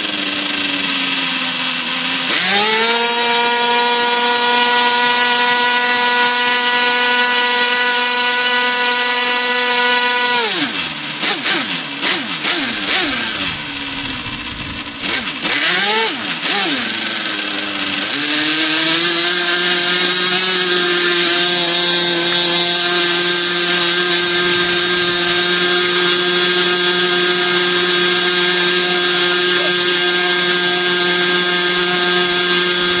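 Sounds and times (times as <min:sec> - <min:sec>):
model airplane engine revving: 0:00.0 - 0:33.0.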